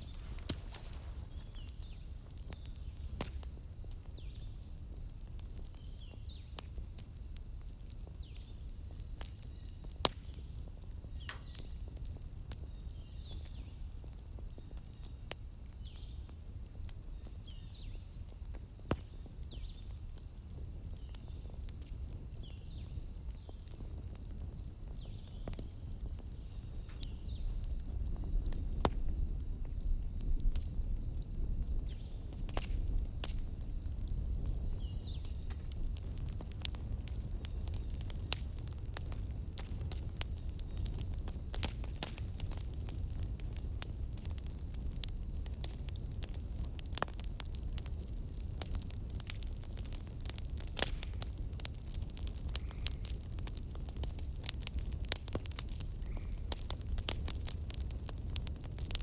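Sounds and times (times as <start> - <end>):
high insect chorus: 0.0 - 59.0
wood fire crackling and popping: 0.0 - 59.0.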